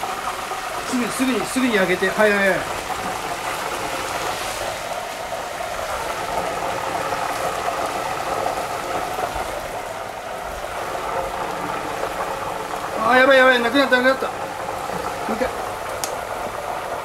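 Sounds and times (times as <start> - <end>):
deep-frying oil sizzling: 0.0 - 17.0.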